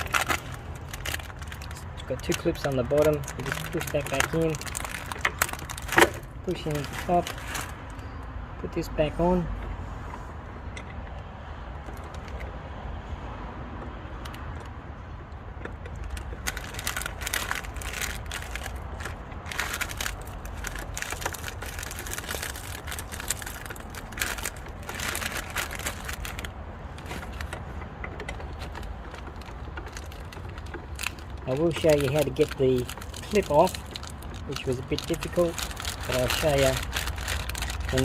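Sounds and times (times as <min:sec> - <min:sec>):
plastic parts clicking and rattling: 0:00.0 - 0:08.1, 0:10.7 - 0:12.6, 0:14.1 - 0:38.0.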